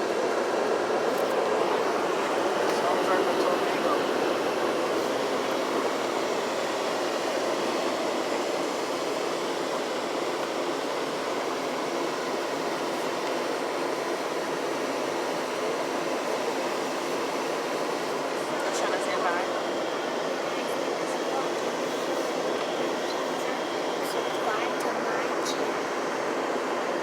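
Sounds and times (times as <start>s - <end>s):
air dryer blowers rushing: 0.0s - 27.0s.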